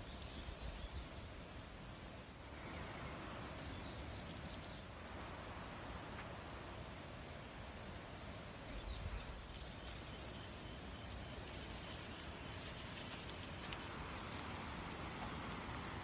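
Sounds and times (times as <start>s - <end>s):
outdoor ambience: 0.0s - 16.0s.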